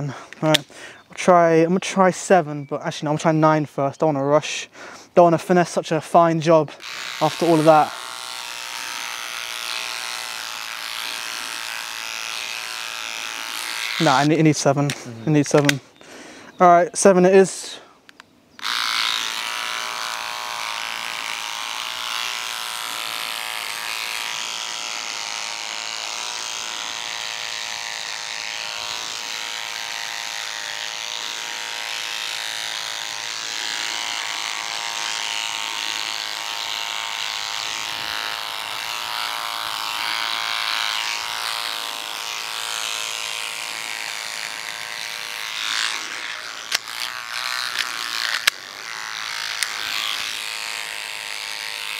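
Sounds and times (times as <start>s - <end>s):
electric beard trimmer buzzing: 0.0s - 0.9s, 5.3s - 15.8s, 18.6s - 51.9s.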